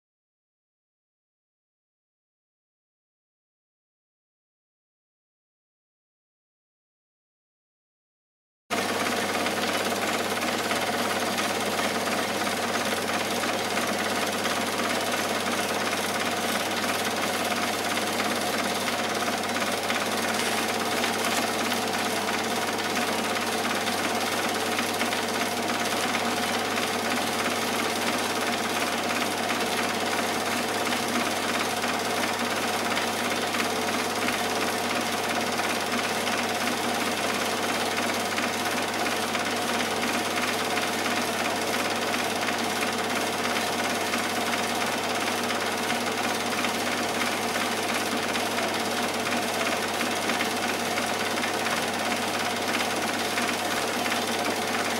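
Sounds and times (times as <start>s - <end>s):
film projector clatter: 8.7s - 54.9s.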